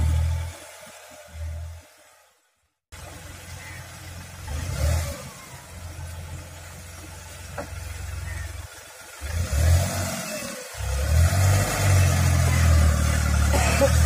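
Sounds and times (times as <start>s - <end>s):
truck engine revving: 0.0s - 1.8s, 3.0s - 14.0s.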